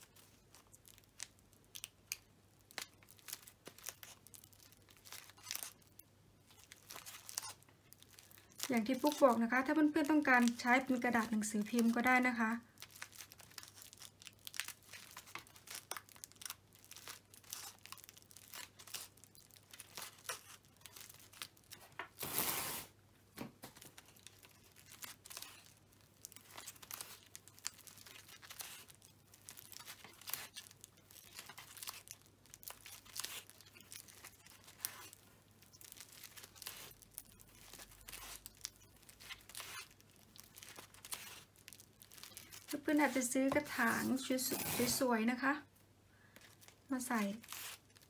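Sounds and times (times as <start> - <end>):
tape and foil crinkling: 0.0 - 45.6, 46.2 - 48.0.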